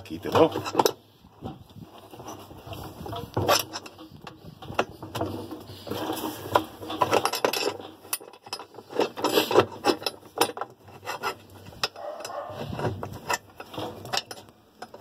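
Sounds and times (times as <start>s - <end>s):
parts scraping and rubbing: 0.0s - 15.0s
small clicks and knocks: 1.6s - 15.0s.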